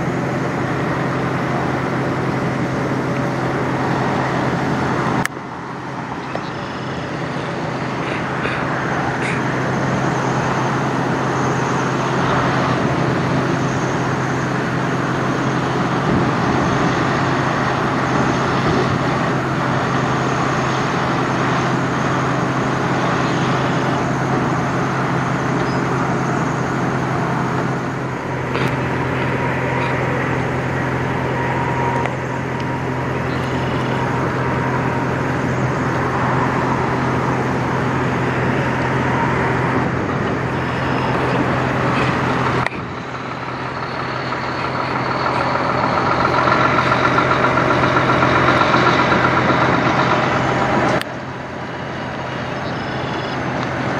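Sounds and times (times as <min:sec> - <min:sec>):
diesel truck engines droning: 0:00.0 - 0:53.9.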